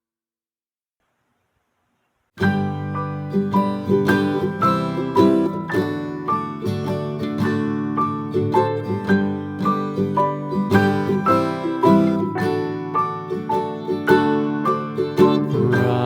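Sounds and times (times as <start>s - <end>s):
plucked string instrumental music: 2.4s - 16.0s.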